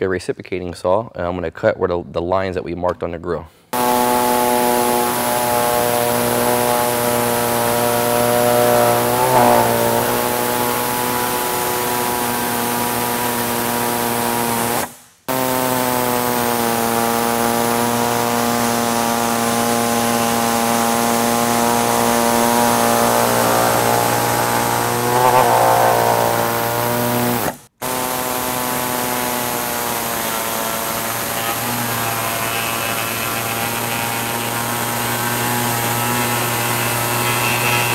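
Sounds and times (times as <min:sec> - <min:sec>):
pneumatic saw cutting plastic: 0:03.7 - 0:37.9.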